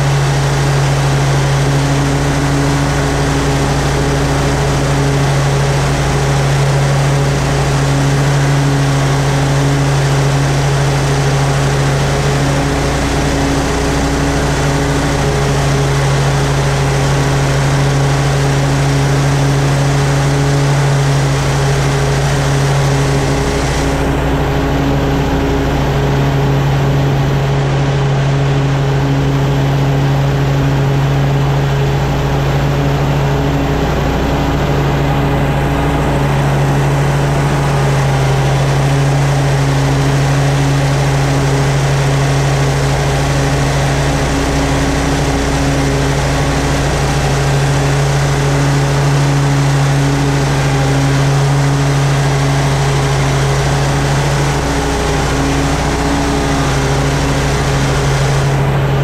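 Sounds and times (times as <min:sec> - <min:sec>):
blades cutting grass: 0:00.0 - 0:59.0
mower engine running: 0:00.0 - 0:59.0.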